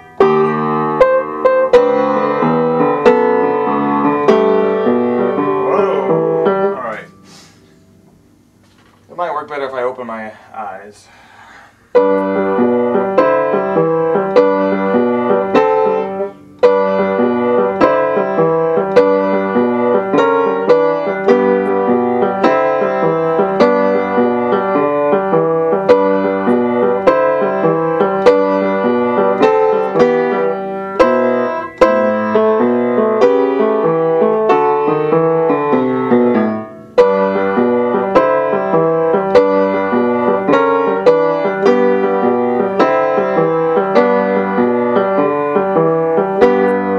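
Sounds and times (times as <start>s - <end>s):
boogie-woogie piano: 0.0s - 7.4s, 11.4s - 46.9s.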